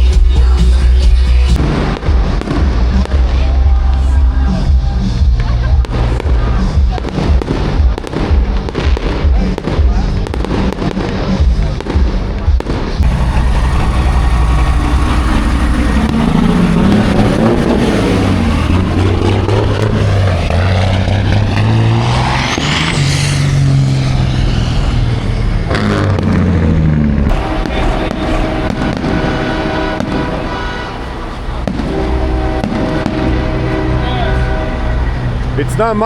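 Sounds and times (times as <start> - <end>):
truck engine passing: 0.0 - 36.0.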